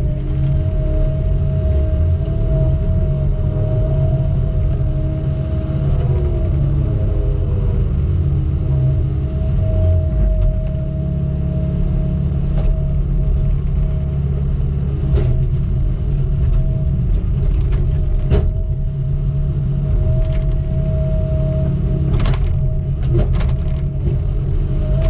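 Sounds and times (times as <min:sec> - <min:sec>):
diesel engine running: 0:00.0 - 0:25.0
high steady whine: 0:00.0 - 0:25.0.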